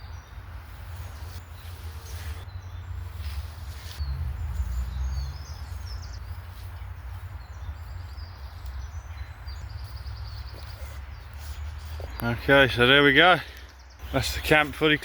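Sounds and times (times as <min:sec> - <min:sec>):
wind rumbling on microphone: 0:00.0 - 0:12.3
small birds chirping: 0:00.0 - 0:15.0.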